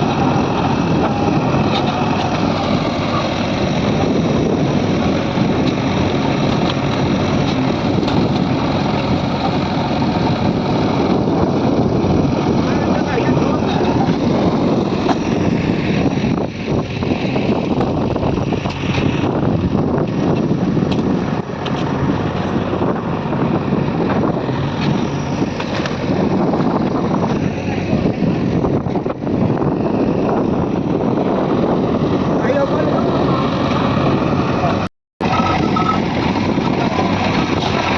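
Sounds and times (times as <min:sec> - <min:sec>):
diesel engines running: 0:00.0 - 0:37.9
wind noise on microphone: 0:00.0 - 0:37.9.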